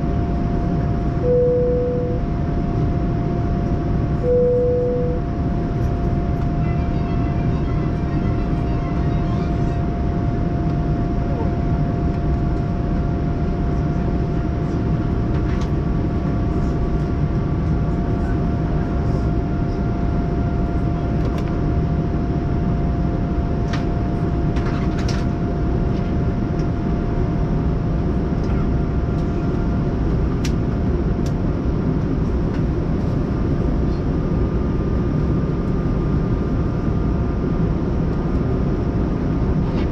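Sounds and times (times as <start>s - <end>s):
constant hum-like tone: 0.0s - 39.9s.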